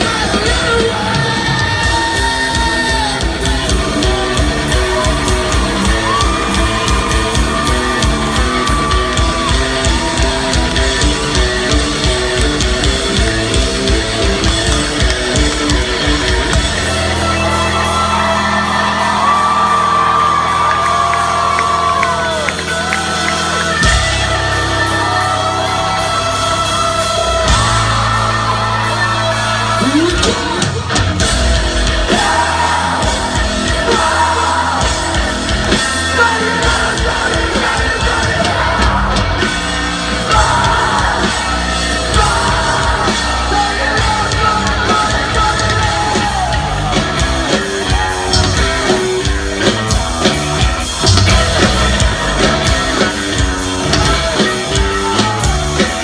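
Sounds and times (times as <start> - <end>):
person singing and yelling: 0.0 - 49.4
drums: 0.0 - 56.0
electric guitars: 0.0 - 56.0.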